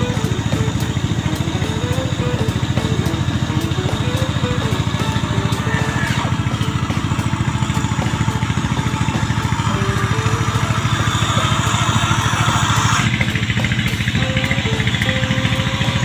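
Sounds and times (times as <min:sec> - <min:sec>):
diesel truck engine chugging: 0:00.0 - 0:16.0
high-pitched whine: 0:00.0 - 0:16.0.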